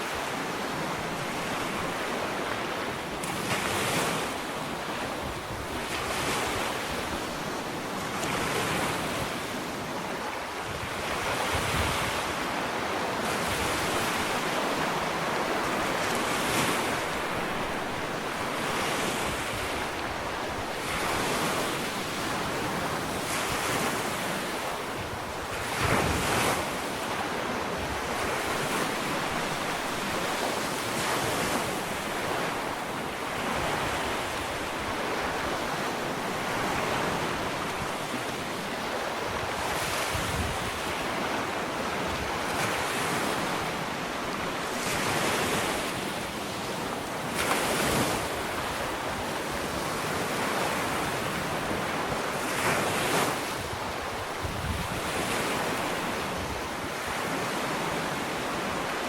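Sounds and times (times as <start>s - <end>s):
ocean waves washing onto beach: 0.0s - 59.0s
wind noise on microphone: 0.0s - 59.0s.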